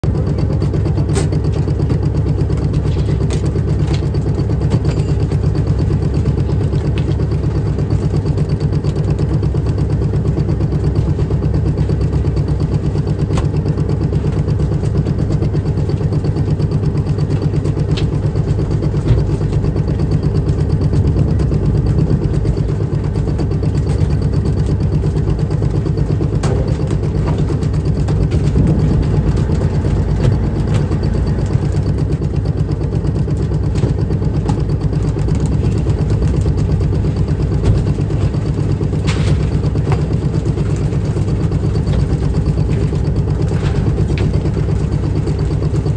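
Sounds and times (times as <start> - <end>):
boat engine low hum: 0.0 - 45.9.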